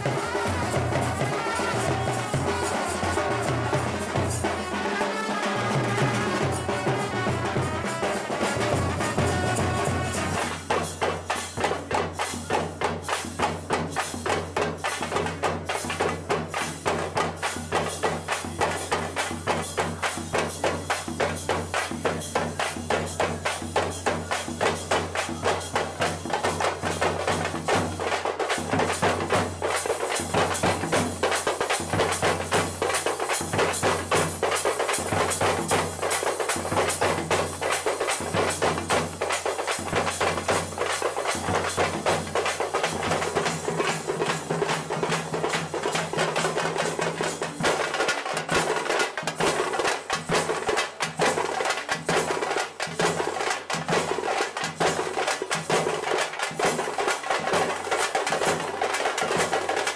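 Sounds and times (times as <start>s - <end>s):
bass and snare drums beating: 0.0s - 59.9s.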